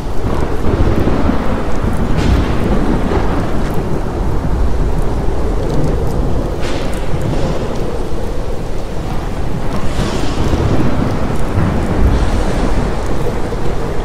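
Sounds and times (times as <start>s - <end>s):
heavy rain: 0.0s - 14.0s
hiss of wind or surf: 0.0s - 14.0s
rolling thunder rumble: 0.0s - 14.0s.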